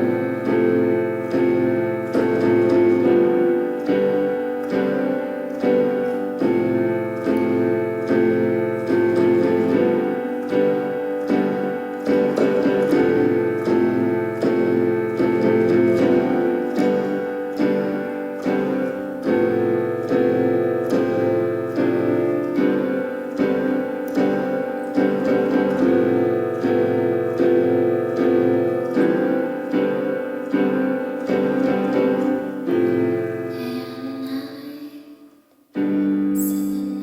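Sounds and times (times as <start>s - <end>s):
piano chords: 0.0s - 37.0s.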